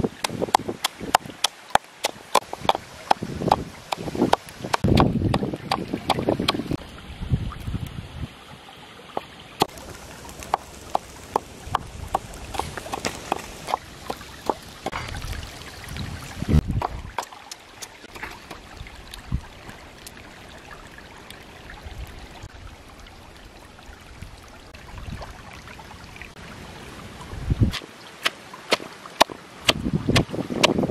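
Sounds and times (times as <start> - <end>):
stream trickling over rocks: 0.0 - 30.9.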